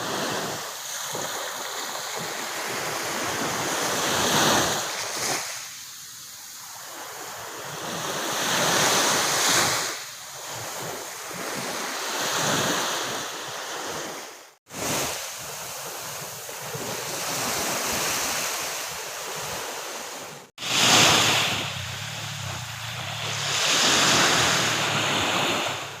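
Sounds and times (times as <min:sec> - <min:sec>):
ocean waves breaking: 0:00.0 - 0:05.8, 0:06.4 - 0:26.0.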